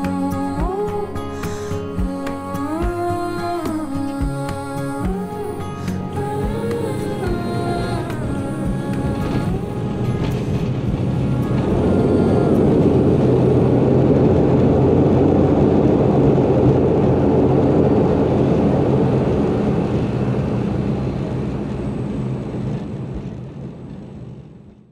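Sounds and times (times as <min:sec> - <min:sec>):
turboprop engine drone in cabin: 0:00.0 - 0:24.9.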